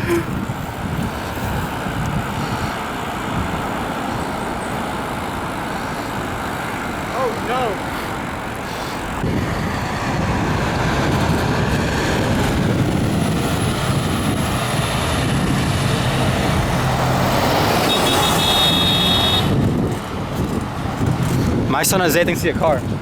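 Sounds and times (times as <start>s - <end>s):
wind rumble on microphone: 0.0s - 7.1s, 8.2s - 23.0s
road traffic noise: 0.0s - 23.0s.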